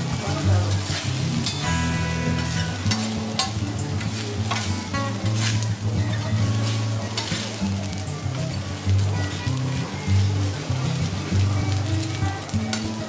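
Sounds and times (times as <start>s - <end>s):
metal spatula scraping a griddle: 0.0s - 13.0s
rice sizzling on a griddle: 0.0s - 13.0s.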